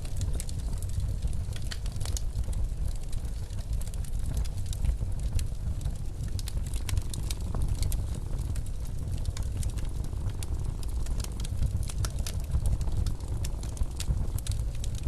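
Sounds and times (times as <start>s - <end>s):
blizzard wind rumble: 0.0s - 15.0s
wood fire crackling: 0.0s - 15.0s.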